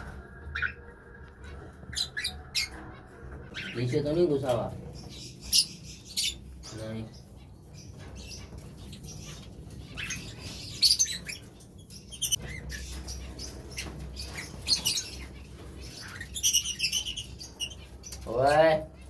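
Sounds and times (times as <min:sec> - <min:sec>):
lovebirds chirping: 0:00.0 - 0:19.0.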